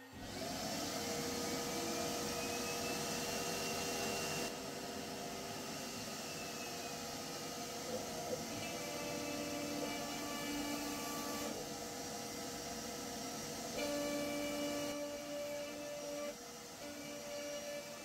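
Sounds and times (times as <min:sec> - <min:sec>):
dust extraction vacuum hiss: 0:00.0 - 0:18.0.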